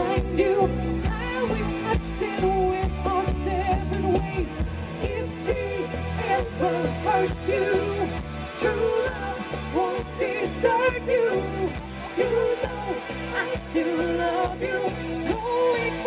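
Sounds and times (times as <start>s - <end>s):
live pop band playing: 0.0s - 16.0s.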